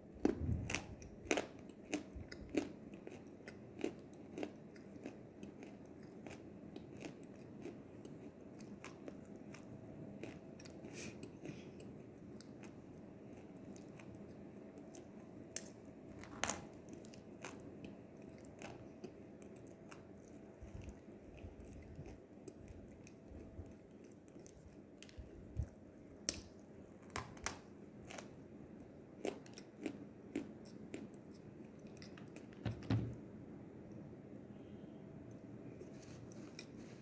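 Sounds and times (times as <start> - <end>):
person chewing crisp clay: 0.2 - 32.5, 35.2 - 37.0.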